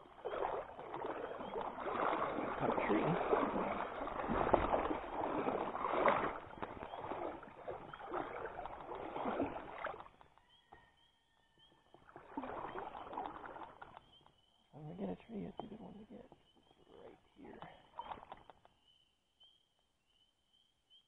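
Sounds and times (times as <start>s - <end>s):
wading through shallow water: 0.0s - 19.7s.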